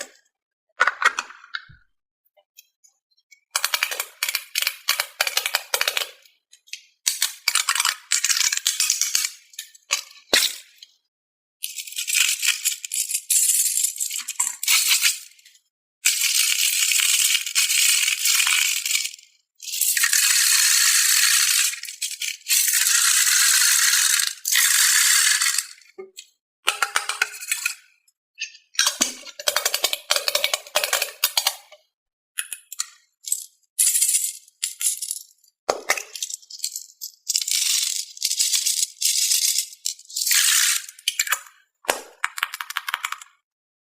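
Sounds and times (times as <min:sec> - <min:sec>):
plastic toy balls rattling: 0:03.6 - 0:10.7, 0:11.6 - 0:15.3, 0:16.1 - 0:31.8, 0:32.4 - 0:43.4.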